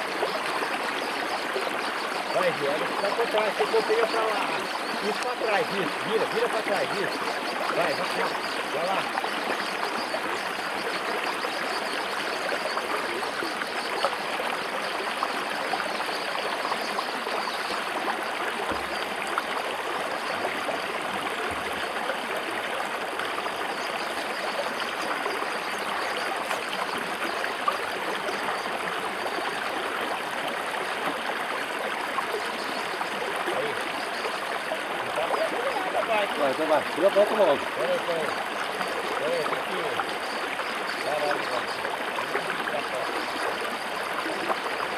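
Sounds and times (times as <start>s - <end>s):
river water flowing over rocks: 0.0s - 44.9s.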